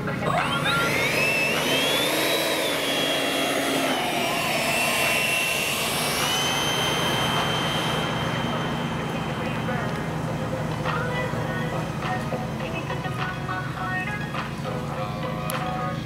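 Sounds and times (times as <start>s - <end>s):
model jet engines whining: 0.0s - 16.0s.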